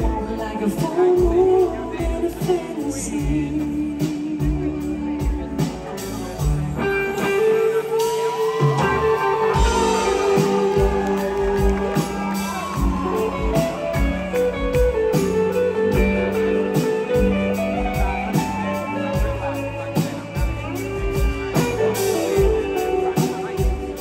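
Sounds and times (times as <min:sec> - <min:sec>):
bass guitar: 0:00.0 - 0:24.0
drums: 0:00.0 - 0:24.0
electric guitar lead: 0:00.0 - 0:24.0.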